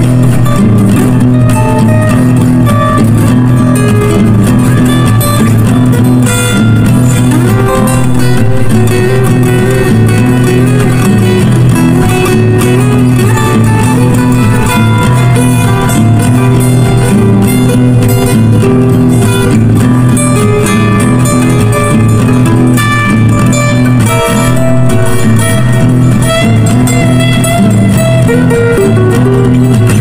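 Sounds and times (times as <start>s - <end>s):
plucked guitar background music: 0.0s - 30.0s.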